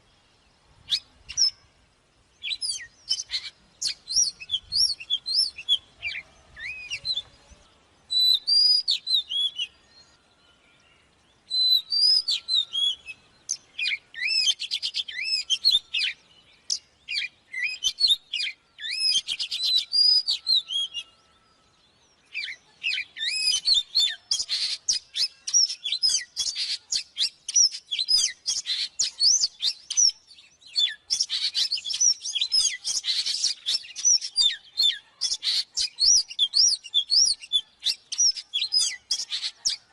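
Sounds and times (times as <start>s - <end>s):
songbird singing whistled phrases: 0.8s - 1.7s, 2.4s - 39.9s.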